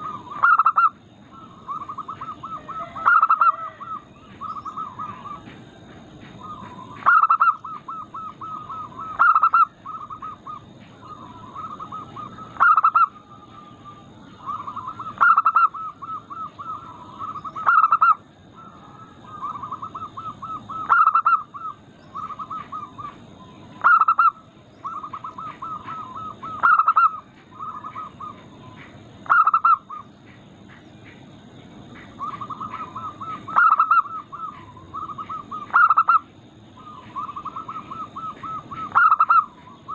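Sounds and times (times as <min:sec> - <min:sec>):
doves cooing: 0:00.0 - 0:31.2, 0:31.8 - 0:39.9.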